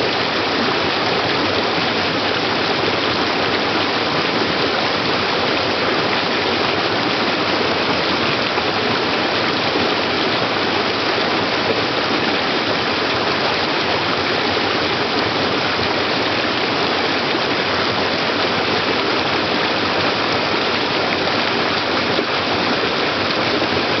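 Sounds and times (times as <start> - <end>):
small waterfall pouring over rocks: 0.0 - 24.0.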